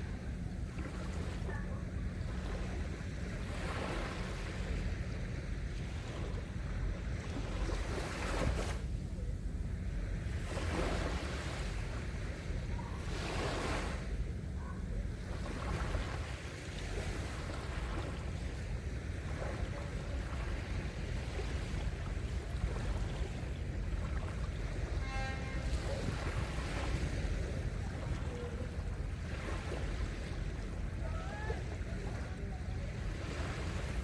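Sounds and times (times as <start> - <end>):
small waves washing up beach: 0.0 - 9.2, 9.8 - 34.0
wind rumble on microphone: 0.0 - 34.0.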